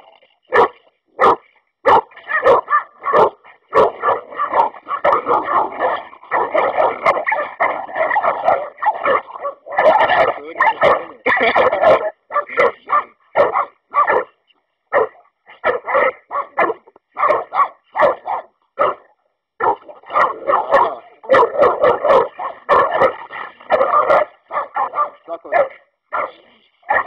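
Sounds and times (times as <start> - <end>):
dogs barking and yelping: 0.5 - 27.0.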